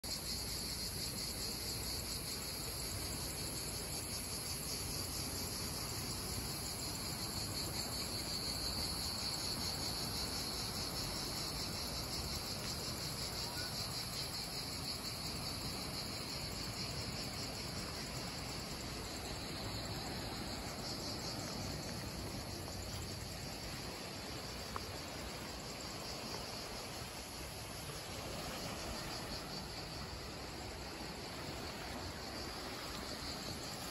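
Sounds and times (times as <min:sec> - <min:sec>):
insects chirring: 0:00.0 - 0:33.9
faint low background hiss: 0:00.1 - 0:33.9.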